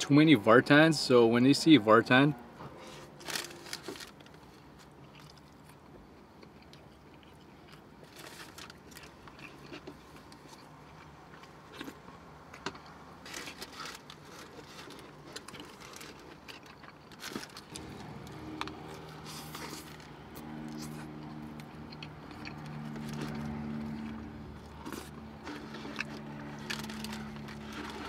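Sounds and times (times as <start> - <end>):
close-up chewing: 3.3 - 28.0.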